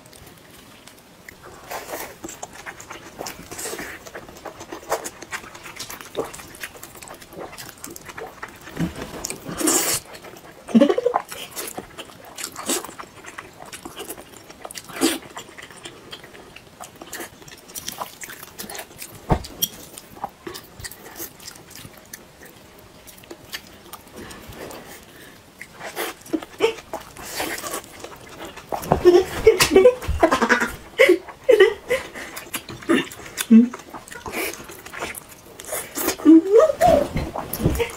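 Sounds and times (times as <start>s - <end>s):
wet chewing and lip smacking: 0.0s - 29.0s, 30.4s - 36.3s.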